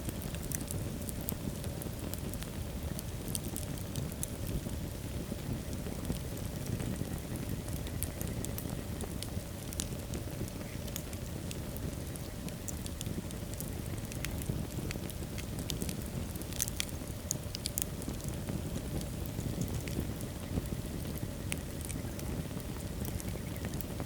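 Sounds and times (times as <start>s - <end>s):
low rush of flames: 0.0s - 24.0s
wood fire crackling: 0.0s - 24.0s.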